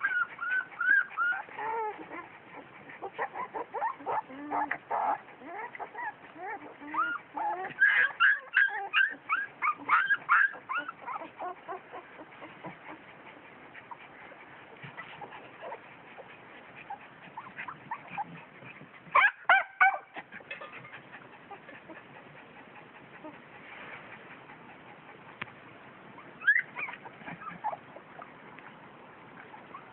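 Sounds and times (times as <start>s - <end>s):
puppies yelping: 0.0s - 23.4s, 26.1s - 28.4s
puppies whimpering: 0.0s - 25.4s, 26.0s - 28.5s, 29.3s - 29.9s.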